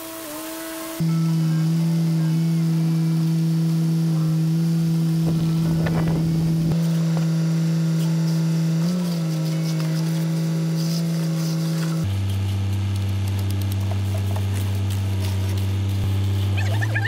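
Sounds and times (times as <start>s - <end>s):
diesel truck engine running: 1.0s - 17.0s.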